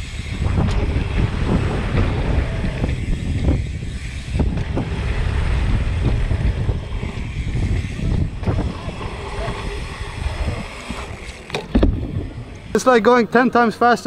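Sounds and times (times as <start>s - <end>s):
wind buffeting microphone: 0.0s - 12.8s
tyres rumbling on dirt: 0.0s - 13.1s
bike landing thumps: 0.2s - 12.7s.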